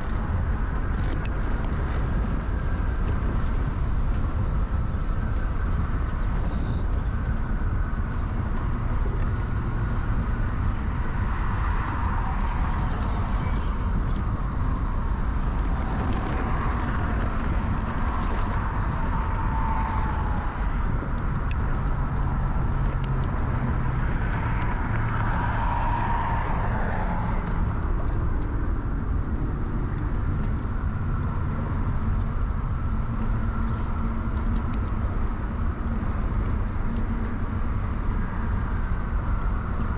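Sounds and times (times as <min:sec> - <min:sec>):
rumble of wind and bicycle tyres: 0:00.0 - 0:39.9.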